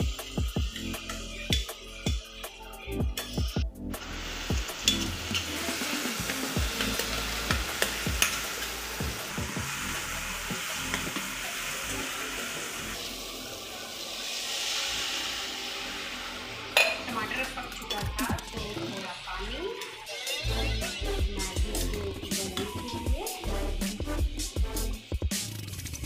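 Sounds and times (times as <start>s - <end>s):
tomatoes sizzling in a pan: 0.0s - 26.0s.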